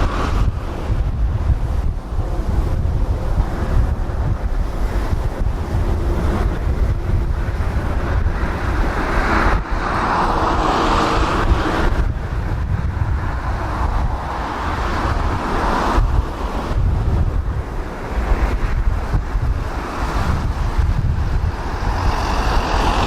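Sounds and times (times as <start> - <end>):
jet engine noise: 0.0 - 23.0
wind buffeting microphone: 0.0 - 23.0.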